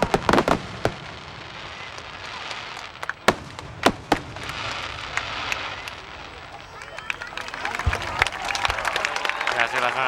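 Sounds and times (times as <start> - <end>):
fireworks bangs: 0.0 - 9.9
fireworks crackling: 0.0 - 10.0.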